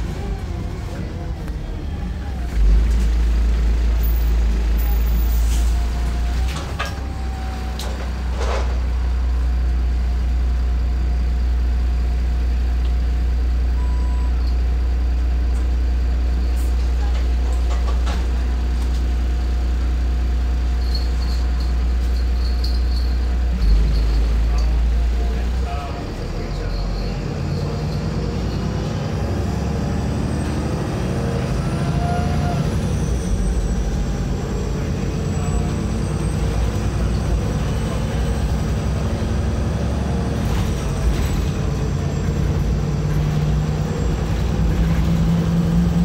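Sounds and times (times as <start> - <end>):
bus engine drone: 0.0 - 46.0.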